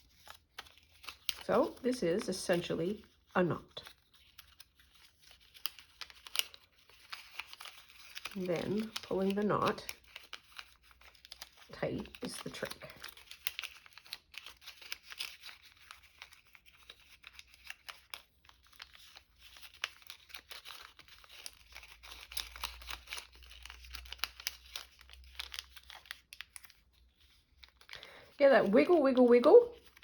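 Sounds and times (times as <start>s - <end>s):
paper strip crinkling: 0.0s - 30.0s.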